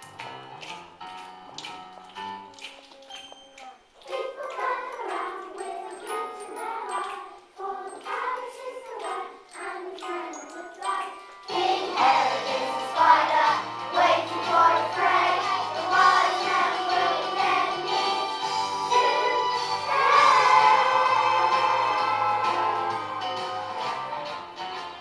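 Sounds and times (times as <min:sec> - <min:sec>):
christmas song with bell-like notes: 0:03.0 - 0:24.4
children singing: 0:04.0 - 0:24.4.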